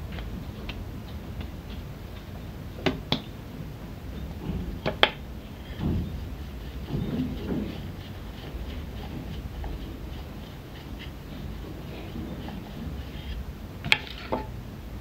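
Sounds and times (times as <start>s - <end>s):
hands working dough: 0.0s - 15.0s
rolling pin rolling over dough: 0.2s - 14.6s.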